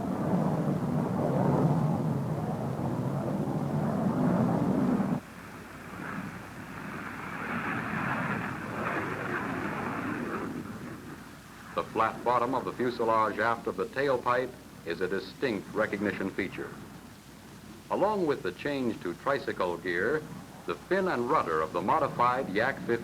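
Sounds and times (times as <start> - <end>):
jet engine roar: 0.0 - 16.9, 18.2 - 23.0.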